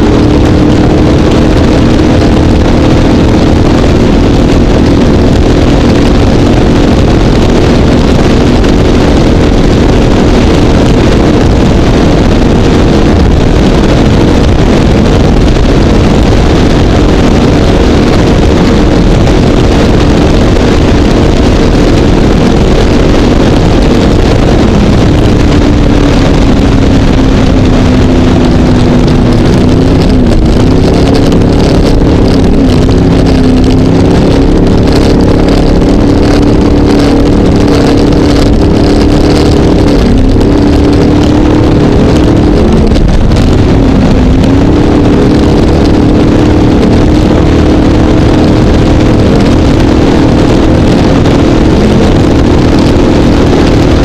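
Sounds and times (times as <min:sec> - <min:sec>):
speedboat engine running hard: 0:00.0 - 0:54.0.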